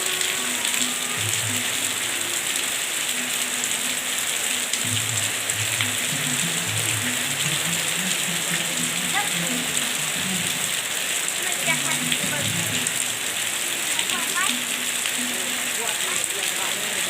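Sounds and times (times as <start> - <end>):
heavy rain: 0.0 - 17.0
raindrops ticking: 0.0 - 17.0.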